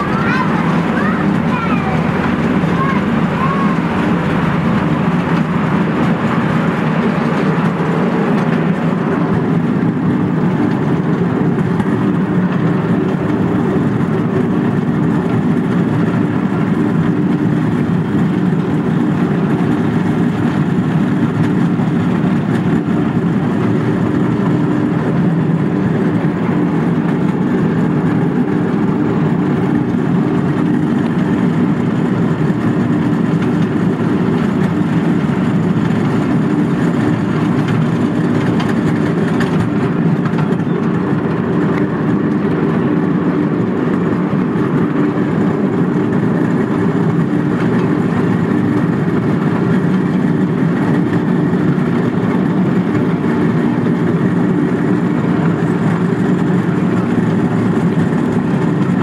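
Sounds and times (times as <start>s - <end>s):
small train running on track: 0.0s - 59.0s.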